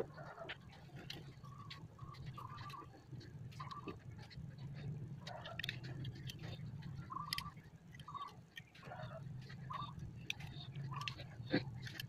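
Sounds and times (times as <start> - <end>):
animal calls: 0.0 - 12.0
low steady hum: 0.0 - 12.0.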